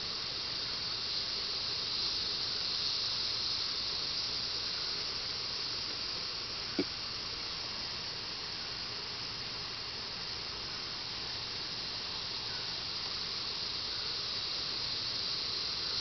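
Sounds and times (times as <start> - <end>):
insect chorus hissing: 0.0 - 16.0.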